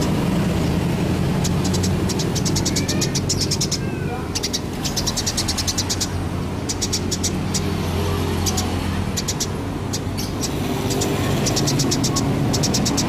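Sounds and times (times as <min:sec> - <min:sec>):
low rumble of traffic: 0:00.0 - 0:13.0
sparrows chirping: 0:00.0 - 0:13.0.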